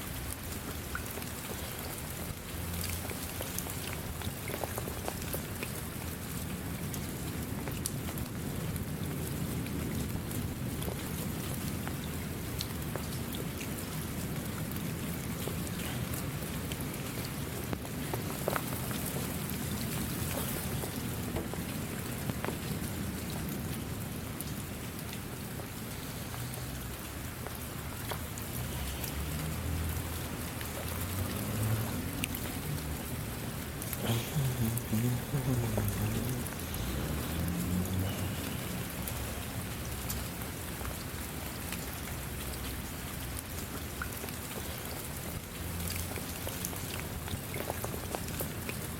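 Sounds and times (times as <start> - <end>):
rain drops hitting: 0.0 - 48.9
rain hiss: 0.0 - 48.9.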